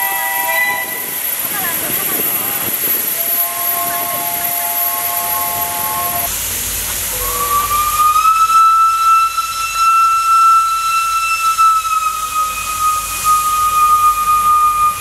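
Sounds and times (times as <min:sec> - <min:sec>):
steam locomotive whistle: 0:00.0 - 0:06.3, 0:07.1 - 0:15.0
hiss of escaping steam: 0:00.0 - 0:15.0.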